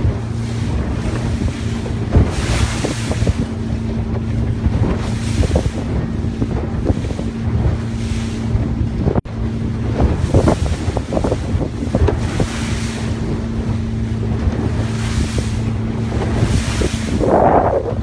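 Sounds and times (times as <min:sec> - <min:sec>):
boat engine humming: 0:00.0 - 0:18.0
rushing water: 0:00.0 - 0:18.0
wind buffeting microphone: 0:00.0 - 0:18.0.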